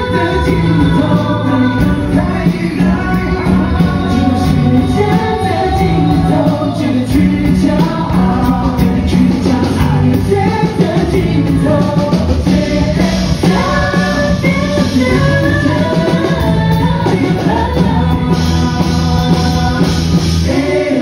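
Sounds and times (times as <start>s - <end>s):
pop rock band playing: 0.0s - 21.0s
woman singing: 0.0s - 21.0s.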